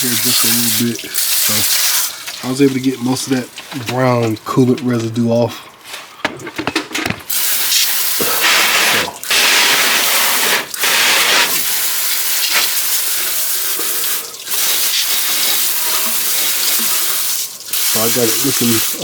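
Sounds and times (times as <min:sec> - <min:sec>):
garden hose spraying water: 0:00.0 - 0:05.3, 0:07.3 - 0:19.0.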